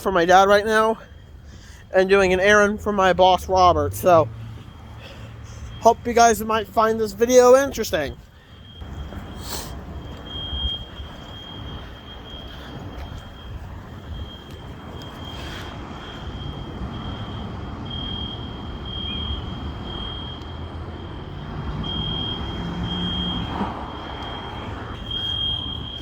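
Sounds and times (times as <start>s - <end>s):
fire alarm beeping: 0.0s - 26.0s.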